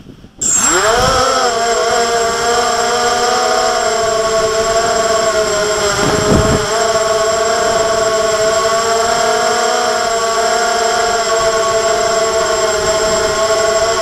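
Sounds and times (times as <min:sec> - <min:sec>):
drone motors whining: 0:00.0 - 0:14.0
wind rumble on microphone: 0:00.0 - 0:14.0.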